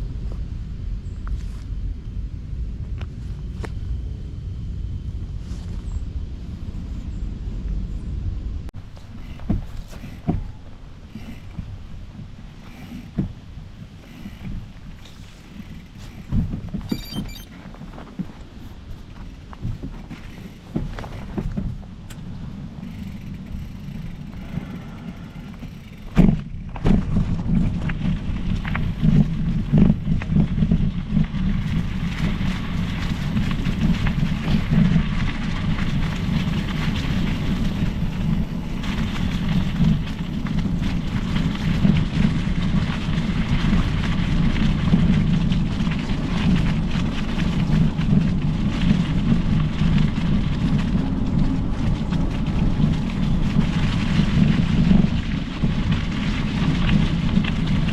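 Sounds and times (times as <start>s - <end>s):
bike tyres rolling on trail: 0.0s - 57.9s
wind buffeting microphone: 0.0s - 57.9s.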